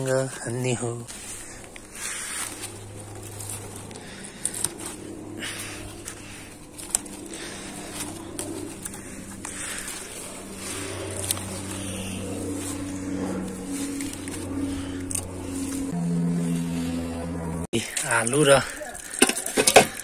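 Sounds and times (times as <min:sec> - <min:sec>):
vines rustling: 0:00.0 - 0:20.0
stems snapping: 0:01.0 - 0:15.9, 0:18.7 - 0:20.0.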